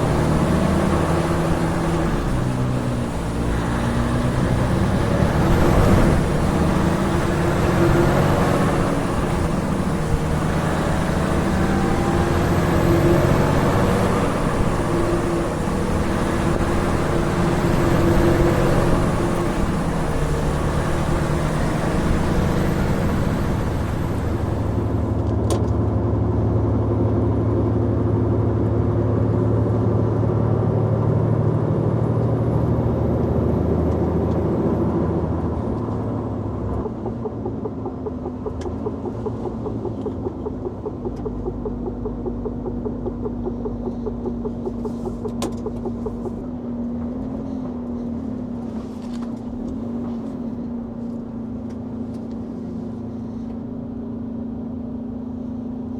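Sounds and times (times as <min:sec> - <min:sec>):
truck diesel engine running: 0:00.0 - 0:55.9.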